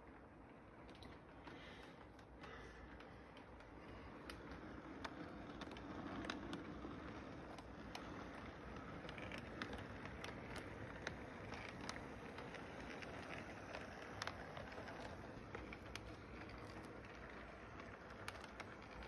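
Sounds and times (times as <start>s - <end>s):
model train rumbling on track: 0.0s - 19.0s.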